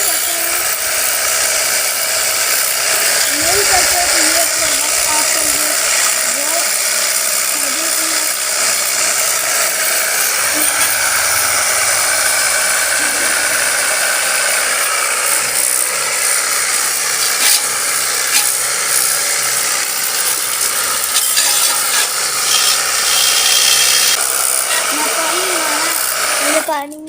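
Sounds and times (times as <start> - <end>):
water spray hissing: 0.0 - 15.6, 16.2 - 26.7
pressure washer pump whirring: 0.0 - 27.0.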